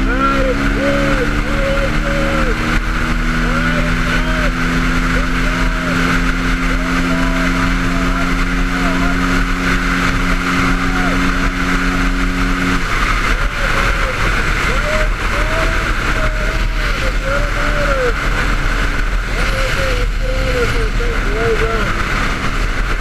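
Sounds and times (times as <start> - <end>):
motorcycle engine drone: 0.0 - 23.0.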